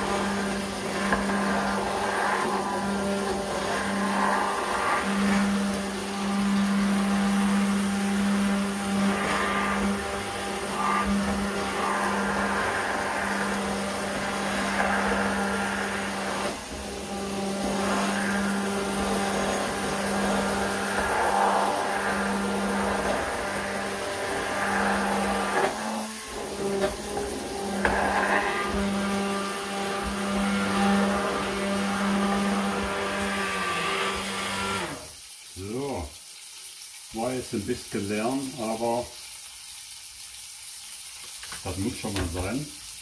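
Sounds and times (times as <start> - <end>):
immersion blender running: 0.0 - 35.2.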